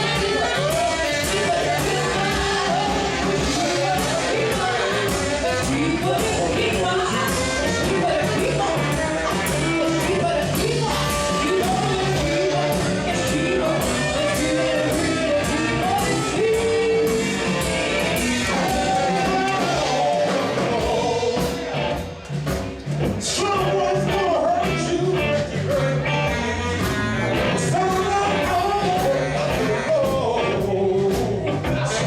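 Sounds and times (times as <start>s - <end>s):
person singing: 0.0s - 22.1s, 23.2s - 32.0s
rock and roll band playing: 0.0s - 32.0s.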